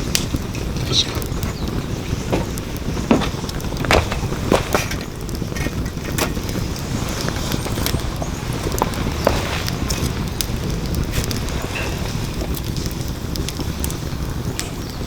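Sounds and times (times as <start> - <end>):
firewood crackling and popping: 0.0 - 15.0
low fire rumble: 0.0 - 15.0.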